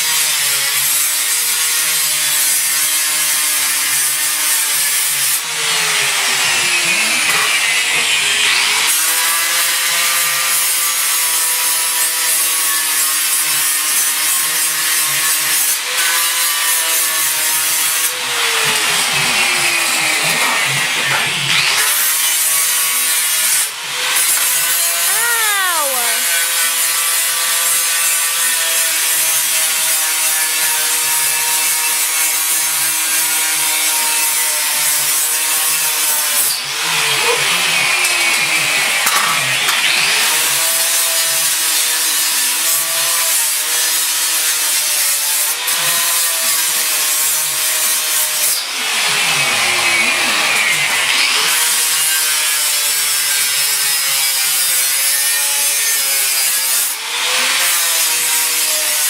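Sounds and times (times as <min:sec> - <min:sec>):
angle grinder on metal: 0:00.0 - 0:59.0.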